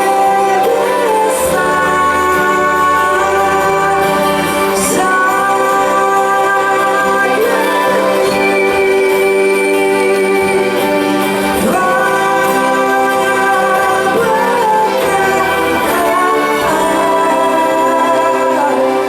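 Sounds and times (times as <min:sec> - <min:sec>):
person singing: 0:00.0 - 0:19.0
slow instrumental music: 0:00.0 - 0:19.0.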